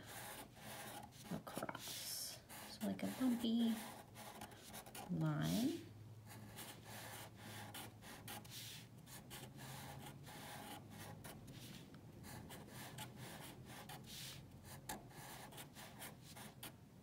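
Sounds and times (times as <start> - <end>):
marker rubbing on paper: 0.0 - 16.8.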